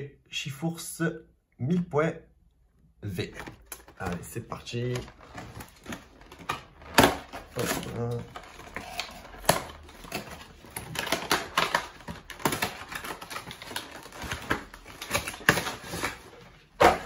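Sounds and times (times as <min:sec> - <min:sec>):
packaging clicks and taps: 0:03.2 - 0:17.0
packaging snaps: 0:03.2 - 0:17.0.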